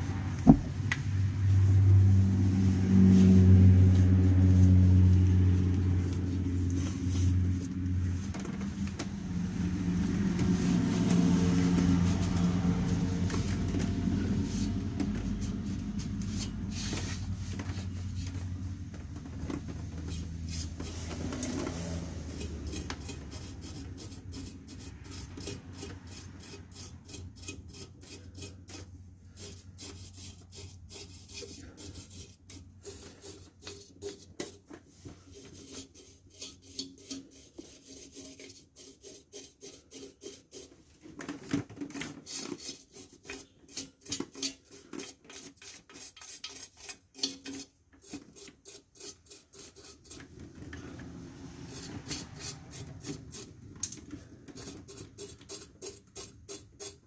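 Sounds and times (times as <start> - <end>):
wire brush scrubbing metal: 0.0 - 8.8, 9.5 - 18.6, 19.9 - 40.8, 42.1 - 57.0.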